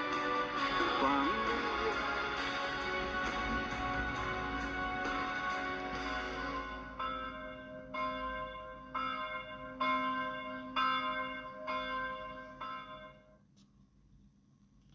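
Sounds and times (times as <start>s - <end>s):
church bell tolling: 0.0s - 13.4s.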